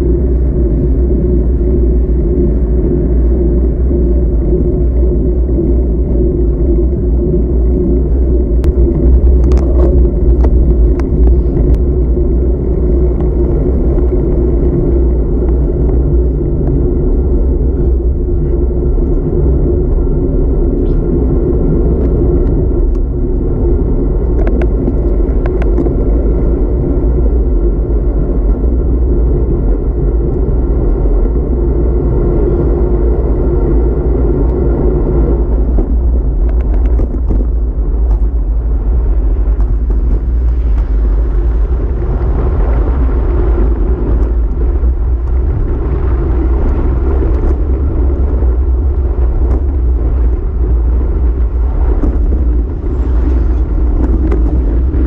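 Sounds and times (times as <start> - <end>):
bike tyres on asphalt: 0.0 - 55.0
steady hum: 0.0 - 55.0
wind buffeting microphone: 0.0 - 55.0.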